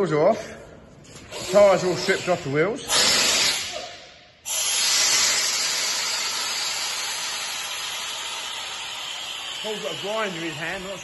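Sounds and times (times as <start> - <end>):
compressed air hissing: 1.2 - 11.0.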